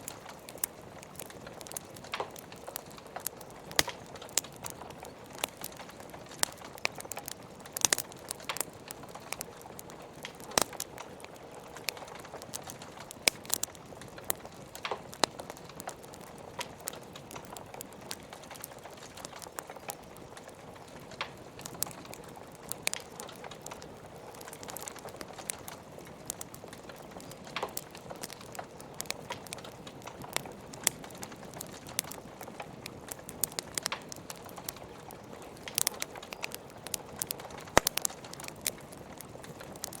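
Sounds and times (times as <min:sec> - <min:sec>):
logs crackling in fireplace: 0:00.0 - 0:40.0.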